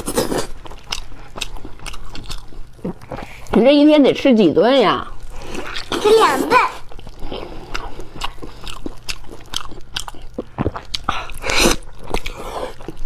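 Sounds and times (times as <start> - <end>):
wet chewing and biting: 0.0 - 3.6, 5.2 - 6.1, 6.8 - 13.0.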